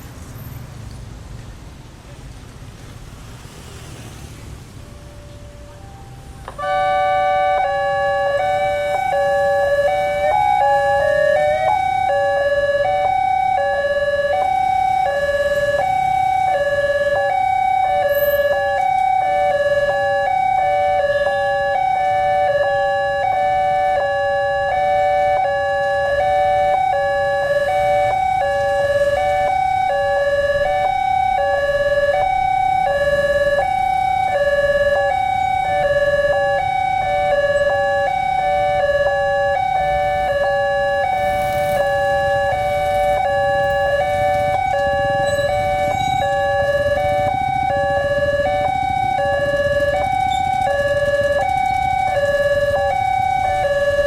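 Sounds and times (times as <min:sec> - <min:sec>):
level crossing warning sirens: 0:04.8 - 0:54.0.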